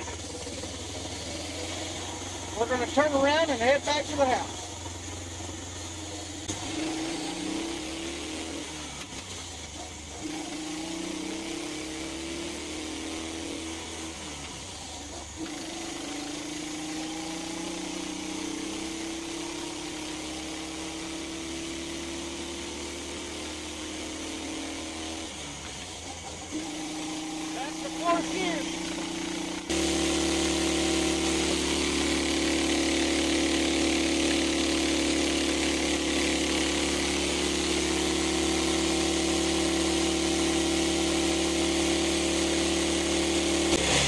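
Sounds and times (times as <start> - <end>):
small engine under load: 0.0 - 44.0.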